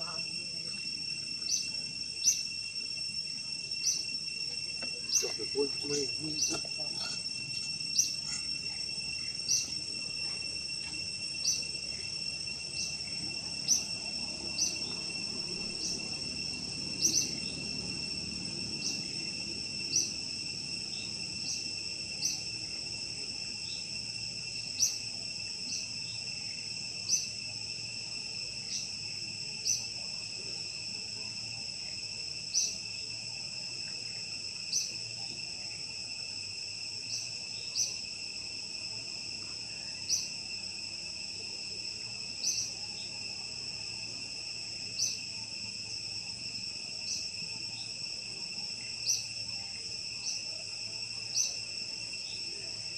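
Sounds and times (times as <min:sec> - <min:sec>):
forest insects droning: 0:00.0 - 0:52.9.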